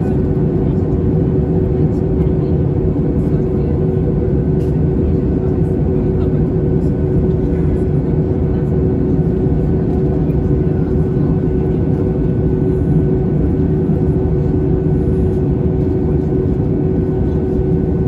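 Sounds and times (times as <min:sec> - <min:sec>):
airplane cabin engine drone: 0:00.0 - 0:18.0
constant hum: 0:00.0 - 0:18.0.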